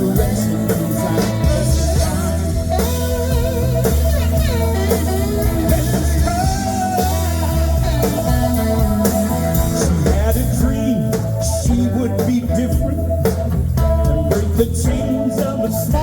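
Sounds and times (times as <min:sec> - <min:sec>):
live rock blues band: 0:00.0 - 0:16.0
person singing: 0:00.0 - 0:16.0
sliding melodic lead line: 0:00.0 - 0:16.0.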